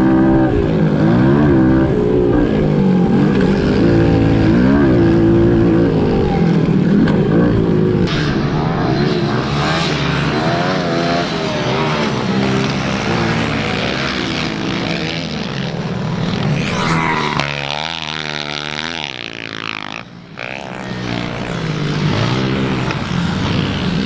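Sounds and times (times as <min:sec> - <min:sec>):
pit bike engines revving: 0:00.0 - 0:24.0.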